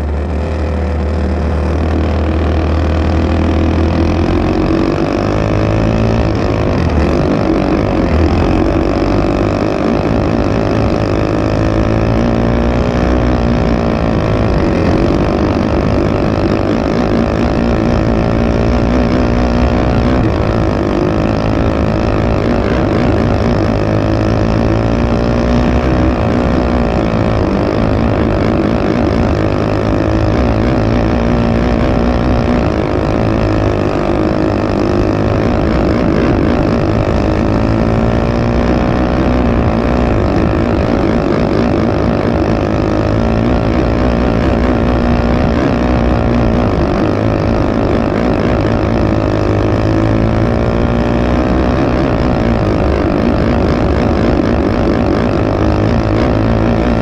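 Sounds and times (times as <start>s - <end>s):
kart engine racing: 0.0s - 57.0s.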